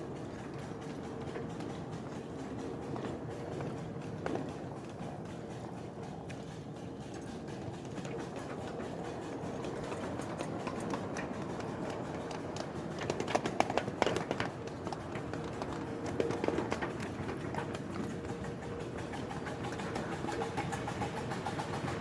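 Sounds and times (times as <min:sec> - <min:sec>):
miniature train running on track: 0:00.0 - 0:22.0.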